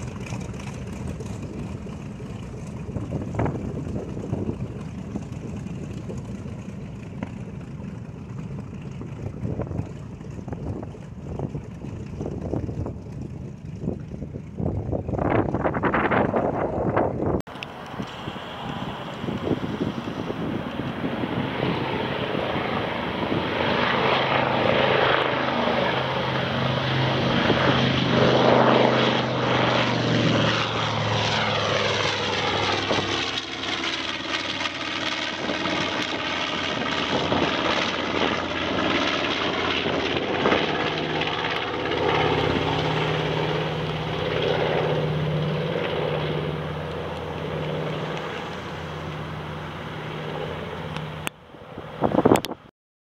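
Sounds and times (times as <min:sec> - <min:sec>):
propeller plane engines flying past: 0:00.0 - 0:52.7.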